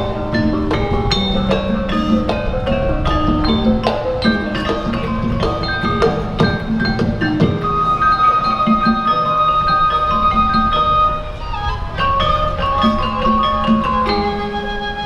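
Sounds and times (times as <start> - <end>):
gamelan ensemble playing: 0.0 - 15.0.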